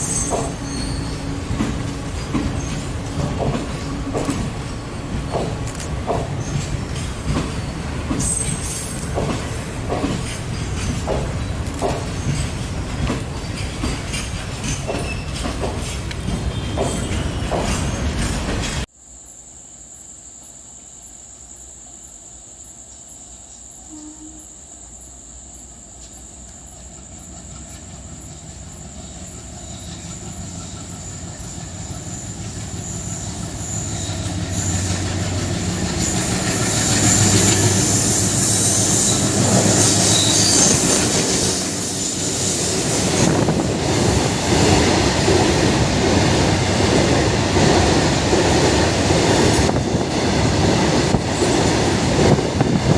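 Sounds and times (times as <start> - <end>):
diesel locomotive engine hum: 0.0 - 18.9, 23.7 - 52.9
train wheels clattering on rails: 0.0 - 18.9, 25.9 - 52.9.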